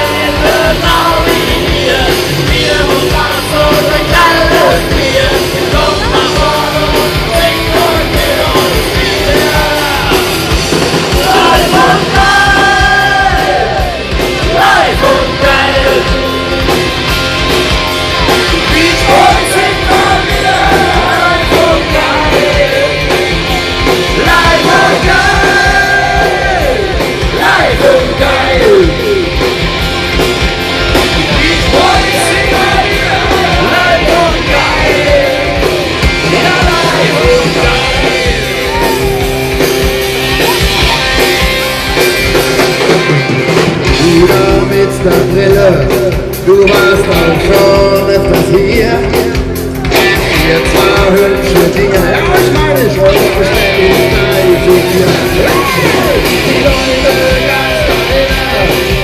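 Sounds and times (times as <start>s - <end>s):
shouted singing: 0.0s - 16.8s, 18.2s - 29.6s, 30.9s - 41.6s, 49.8s - 59.0s
live rock band playing: 0.0s - 59.0s.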